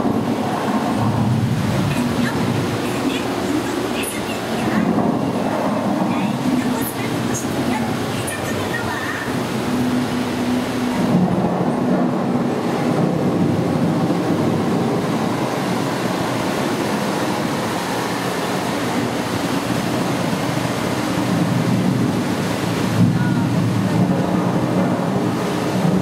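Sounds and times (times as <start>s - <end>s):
steady rushing background noise: 0.0s - 26.0s.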